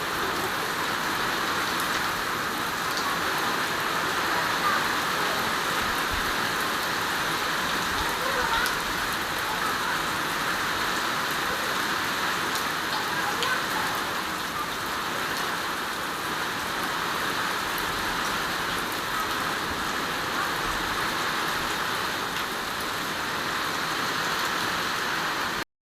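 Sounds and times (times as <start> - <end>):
raindrops ticking on surfaces: 0.0 - 25.6
steady rain falling: 0.0 - 25.6.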